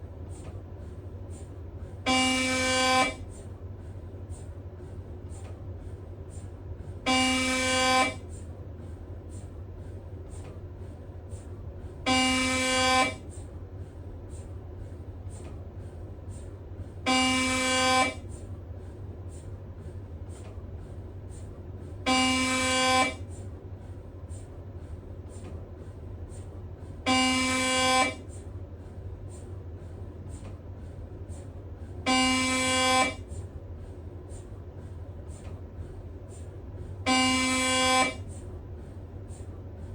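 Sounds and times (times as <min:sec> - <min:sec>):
steady low hum: 0:00.0 - 0:39.9
mri scanner loud pitched buzz: 0:01.3 - 0:05.1, 0:06.2 - 0:10.4, 0:11.0 - 0:15.4, 0:16.0 - 0:39.9.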